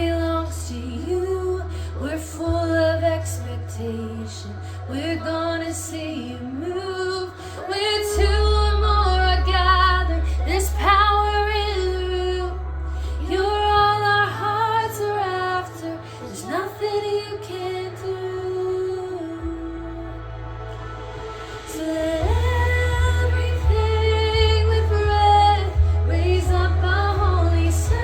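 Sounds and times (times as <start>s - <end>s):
low bass notes: 0.0s - 28.0s
woman singing worship song: 0.0s - 28.0s.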